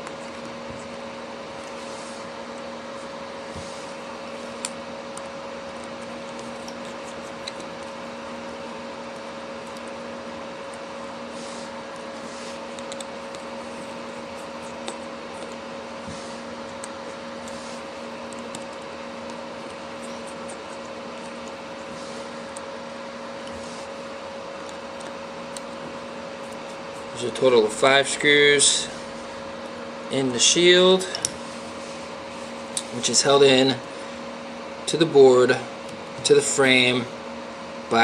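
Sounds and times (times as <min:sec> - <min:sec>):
electrical hum and hiss: 0:00.0 - 0:38.0.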